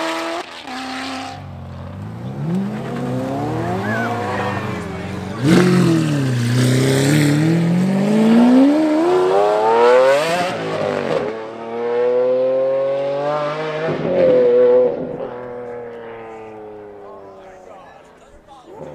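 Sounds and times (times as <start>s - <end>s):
sports car accelerating hard: 0.0s - 17.5s.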